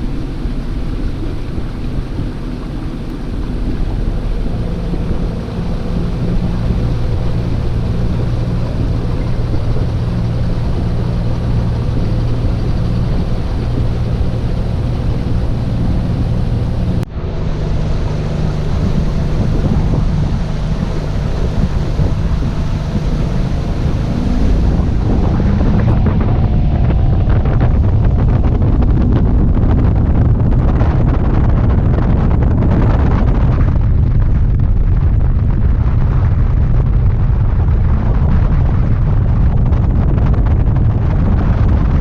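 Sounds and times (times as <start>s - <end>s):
boat engine running: 0.0s - 42.0s
water rushing past: 0.0s - 42.0s
wind buffeting microphone: 0.0s - 42.0s.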